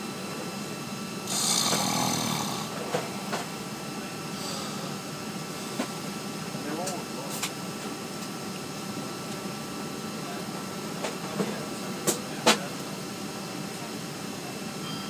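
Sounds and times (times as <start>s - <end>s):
airliner cabin drone: 0.0s - 15.0s.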